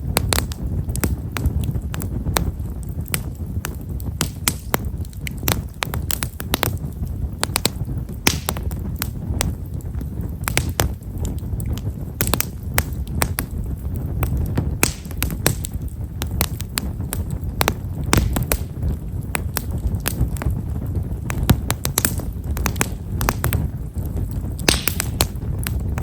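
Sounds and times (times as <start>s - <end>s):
bonfire crackling and popping: 0.0s - 26.0s
fire low rumble: 0.0s - 26.0s.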